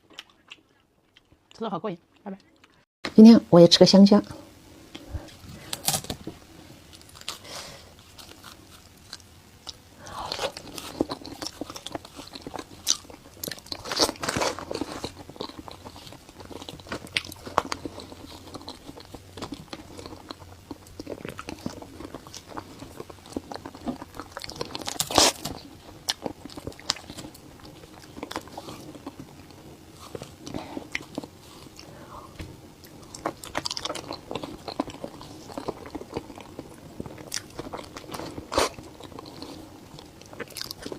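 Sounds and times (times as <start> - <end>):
person chewing food: 0.0 - 2.9, 4.9 - 40.9.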